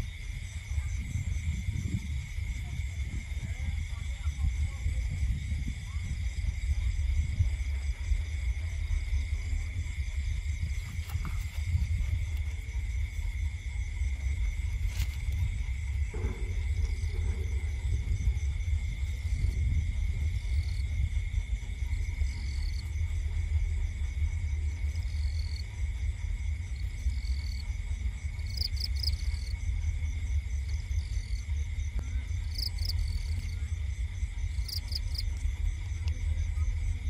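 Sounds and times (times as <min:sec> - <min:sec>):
insects trilling and chirping: 0:00.0 - 0:37.0
low steady rumble: 0:00.0 - 0:37.0.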